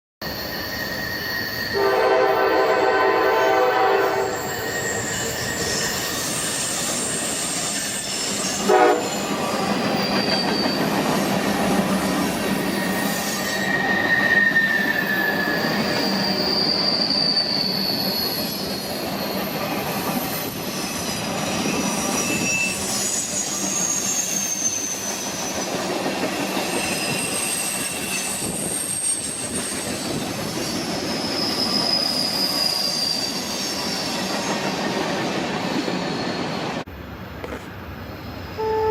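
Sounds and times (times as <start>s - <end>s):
train wheels squealing on rails: 0.2s - 36.9s, 37.5s - 38.9s
rumble of passing train cars: 0.2s - 38.9s.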